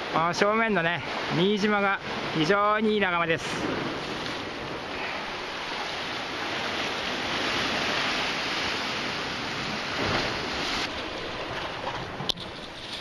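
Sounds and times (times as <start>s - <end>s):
sea waves washing on rocks: 0.0s - 13.0s.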